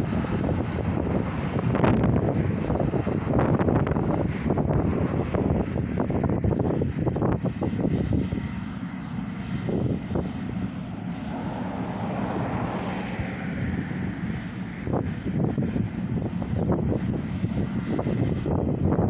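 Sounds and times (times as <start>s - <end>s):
distant engine drone: 0.0s - 19.0s
wind on microphone: 0.0s - 19.0s.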